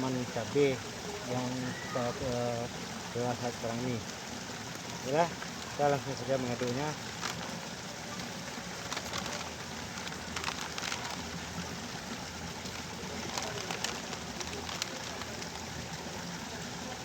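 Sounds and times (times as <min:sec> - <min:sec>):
light splashes: 0:00.0 - 0:17.0
liquid being stirred in water: 0:00.1 - 0:17.0.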